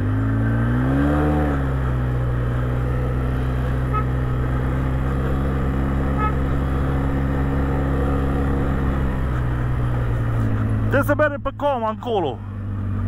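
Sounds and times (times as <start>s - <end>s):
quad engine droning: 0.0s - 13.0s.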